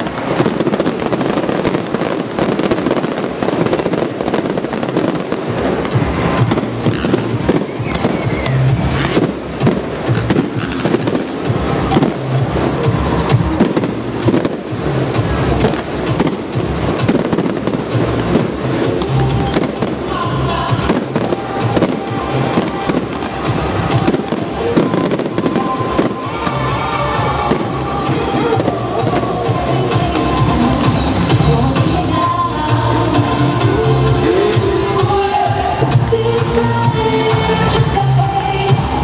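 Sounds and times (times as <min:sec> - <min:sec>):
fireworks bangs and crackling: 0:00.0 - 0:39.0
music: 0:00.0 - 0:39.0.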